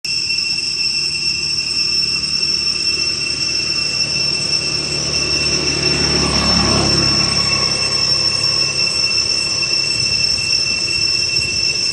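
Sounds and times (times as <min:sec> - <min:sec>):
steady high-pitched whine: 0:00.0 - 0:11.9
low rumbling noise: 0:00.1 - 0:11.9.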